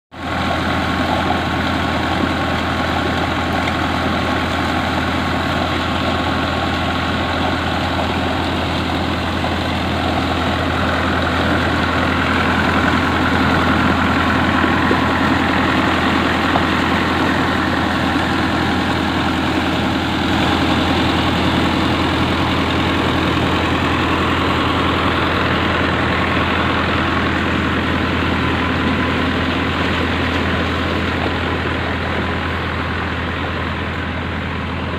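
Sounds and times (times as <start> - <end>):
tractor engine running: 0.1 - 34.9
water gushing from a pipe: 0.2 - 34.9.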